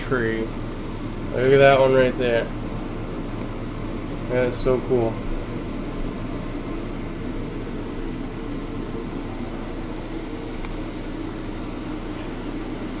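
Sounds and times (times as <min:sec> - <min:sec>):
heater whirring hum: 0:00.0 - 0:13.0.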